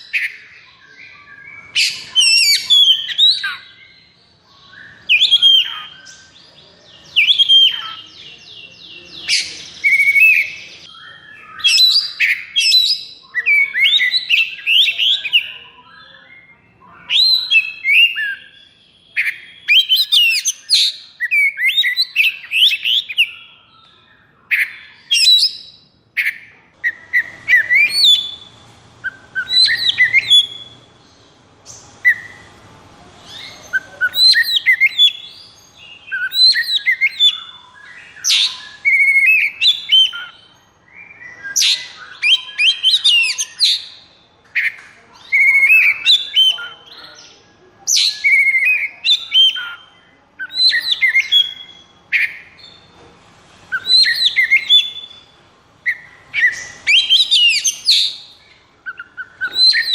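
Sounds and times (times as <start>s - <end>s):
songbird whistling song: 0.0s - 32.6s, 33.2s - 52.9s, 53.7s - 59.9s.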